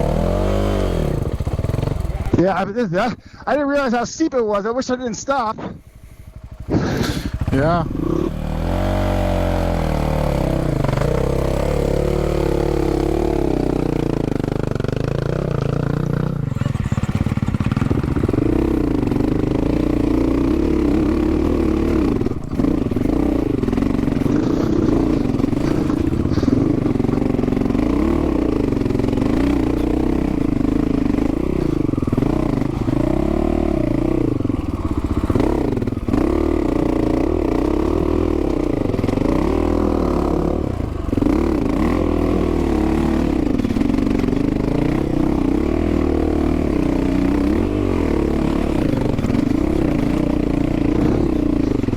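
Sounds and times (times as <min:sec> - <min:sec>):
motorcycle clattering over rough ground: 0:00.0 - 0:03.0, 0:06.4 - 0:51.9
motorcycle engine revving: 0:00.0 - 0:04.3, 0:05.3 - 0:51.9.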